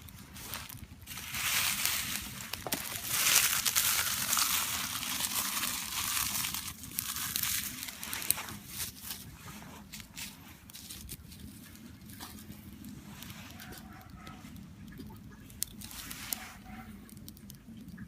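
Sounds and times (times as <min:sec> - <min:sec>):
dry kindling crackling: 0:00.0 - 0:18.0.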